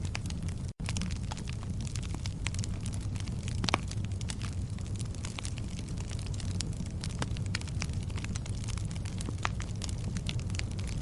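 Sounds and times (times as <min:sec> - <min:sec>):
fire crackling: 0:00.0 - 0:11.0.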